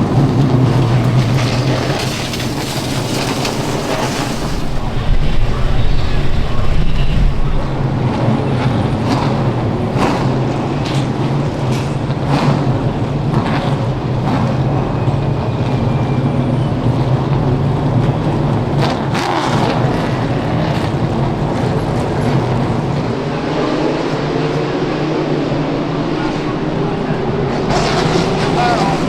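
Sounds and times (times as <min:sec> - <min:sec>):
race car engines humming: 0:00.0 - 0:29.0.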